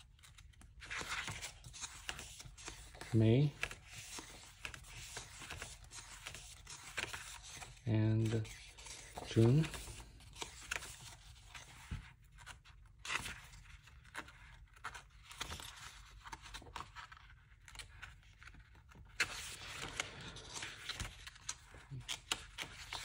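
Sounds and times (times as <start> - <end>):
paper pages rustling: 0.0 - 23.0.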